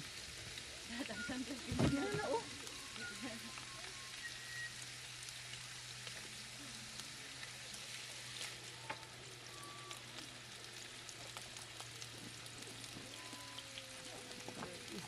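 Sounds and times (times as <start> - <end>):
hot dogs sizzling in frying pan: 0.0 - 15.0.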